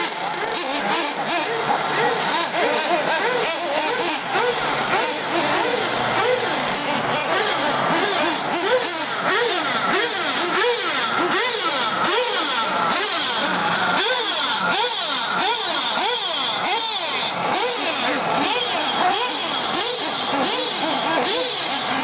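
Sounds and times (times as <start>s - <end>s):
small nitro engines whining: 0.0s - 22.0s.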